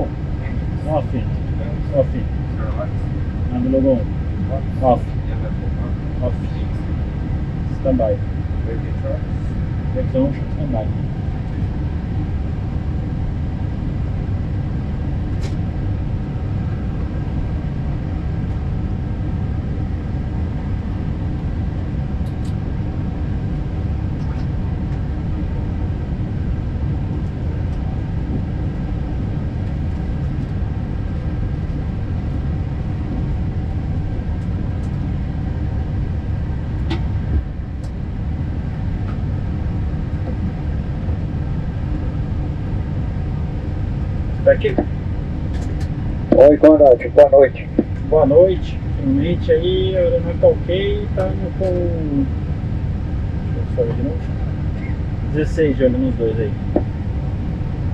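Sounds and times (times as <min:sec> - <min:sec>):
cockpit hum and rush: 0:00.0 - 0:57.9.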